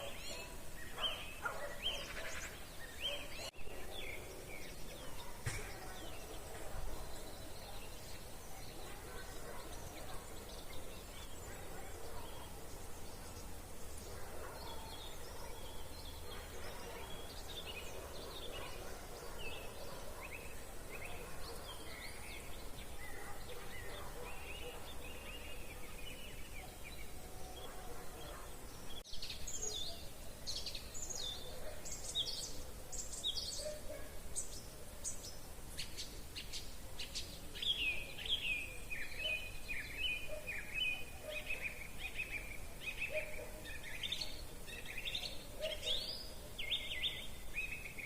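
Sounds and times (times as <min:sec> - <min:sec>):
birds chirping and whistling: 0:00.0 - 0:48.0.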